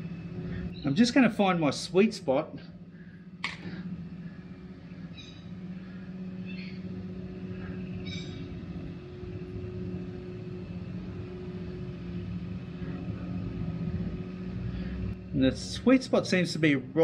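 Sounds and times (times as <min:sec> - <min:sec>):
electric motor humming: 0:02.8 - 0:17.0.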